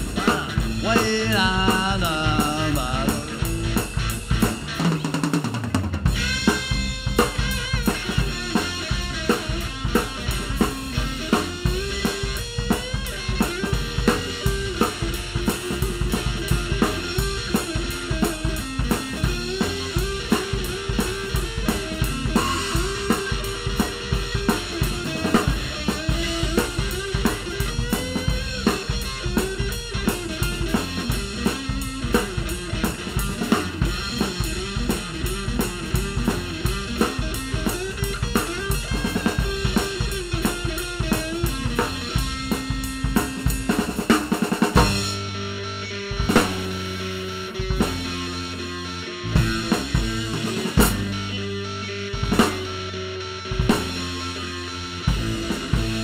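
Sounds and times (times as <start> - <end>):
drum kit beat: 0.0 - 56.0
electric bass: 0.0 - 56.0
electric guitar: 0.0 - 56.0.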